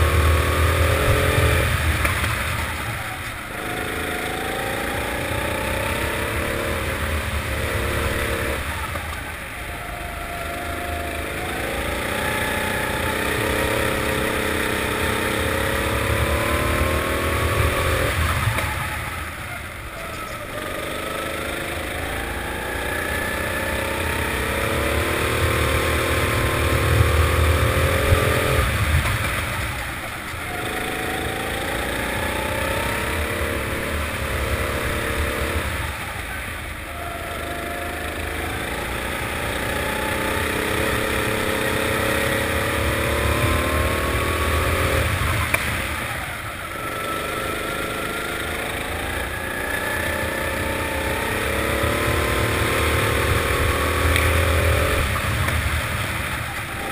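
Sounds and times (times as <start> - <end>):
kart engine accelerating: 0.0 - 56.9.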